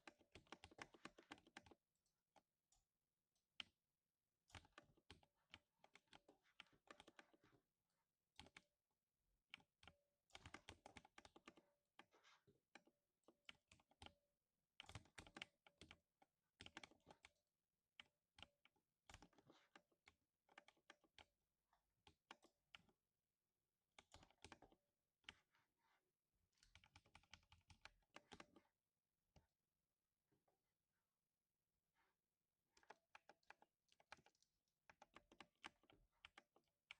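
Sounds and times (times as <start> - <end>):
faint mechanical keyboard typing: 0.0 - 8.8, 9.5 - 23.2, 23.8 - 29.6, 32.7 - 36.9.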